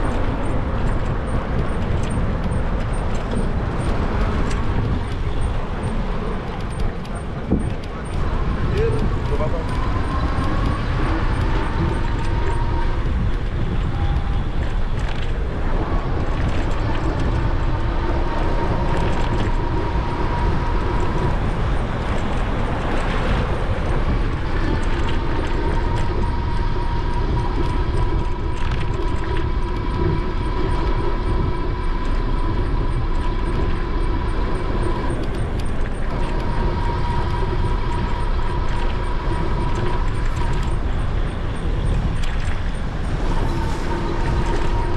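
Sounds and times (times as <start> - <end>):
wind rumbling on microphone: 0.0 - 44.9.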